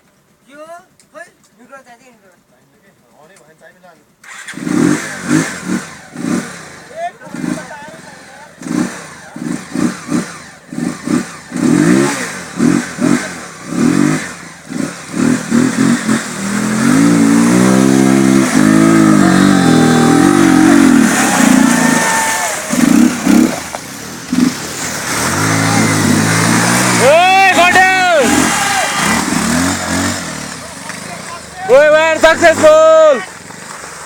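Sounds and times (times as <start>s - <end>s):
motorcycle engine revving: 4.2s - 34.0s.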